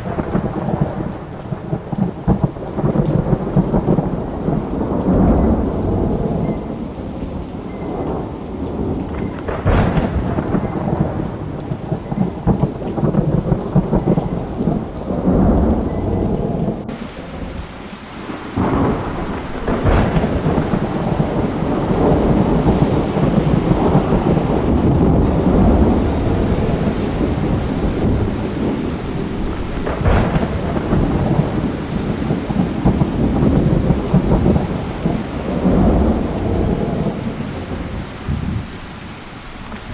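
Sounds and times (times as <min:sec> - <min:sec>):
sharp thunder cracks: 0:00.0 - 0:39.0
steady rain: 0:00.0 - 0:39.9
thunder rumbling: 0:00.0 - 0:39.9.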